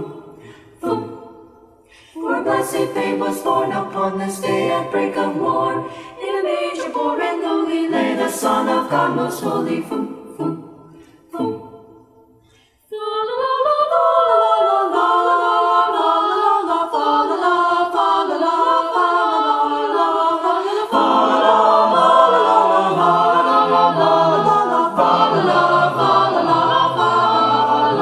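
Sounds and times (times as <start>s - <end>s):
choir singing a cappella: 0.0s - 28.0s.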